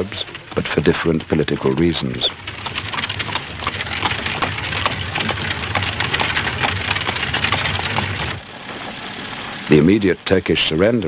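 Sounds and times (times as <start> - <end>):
crackling and clicking: 0.0 - 9.8
steady low hum: 0.0 - 11.0.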